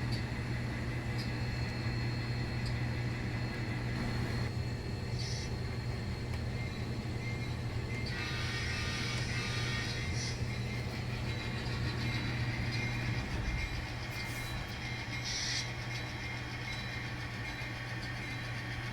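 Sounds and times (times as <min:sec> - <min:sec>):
diesel engine hum through speakers: 0:00.0 - 0:18.9.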